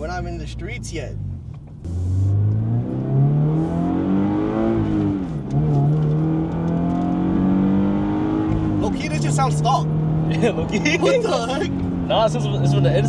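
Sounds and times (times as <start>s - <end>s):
car engine heard from cabin: 0.0s - 13.0s.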